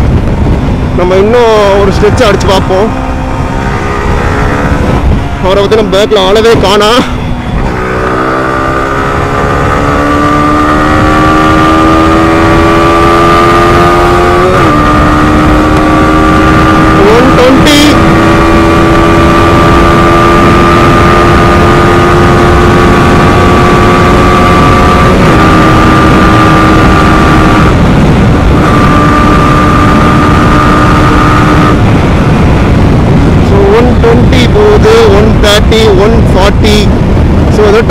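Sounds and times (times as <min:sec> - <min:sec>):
loud wind rush: 0:00.0 - 0:37.9
motorcycle engine at full throttle: 0:00.0 - 0:37.9.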